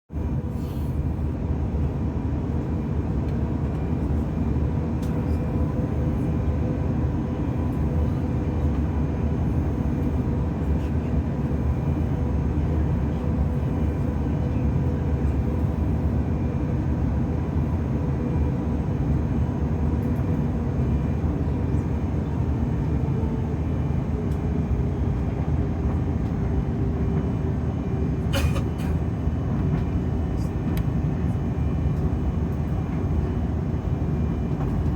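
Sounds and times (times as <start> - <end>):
jet engines rumbling in cabin: 0.1 - 34.9.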